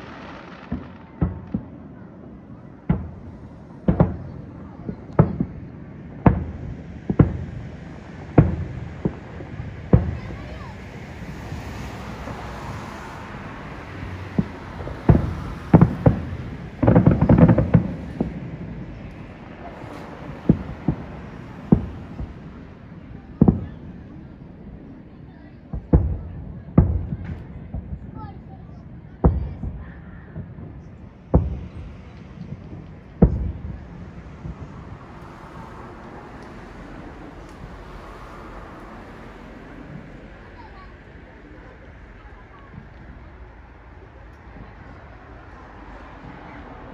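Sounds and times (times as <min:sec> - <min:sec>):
fireworks crackling pops: 0:00.0 - 0:46.7
distant fireworks booms: 0:00.0 - 0:46.9.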